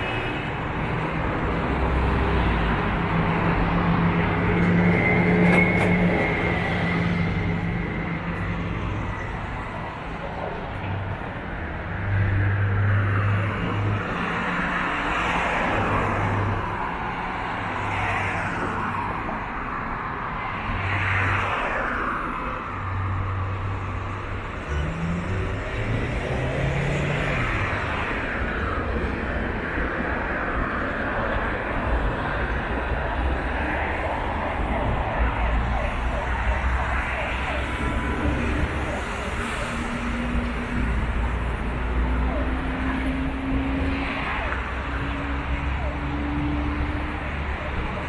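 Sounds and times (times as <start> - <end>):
traffic rumble and tyre hiss: 0.0 - 48.0.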